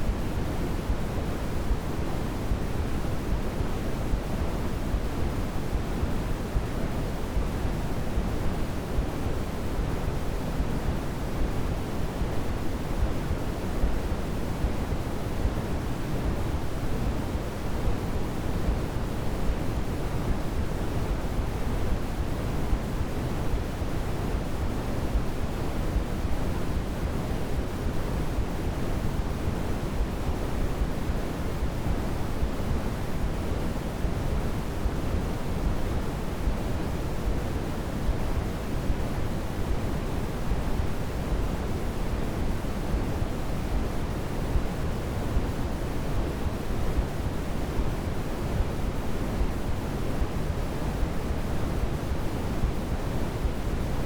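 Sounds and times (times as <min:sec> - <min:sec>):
low white noise: 0:00.0 - 0:54.0.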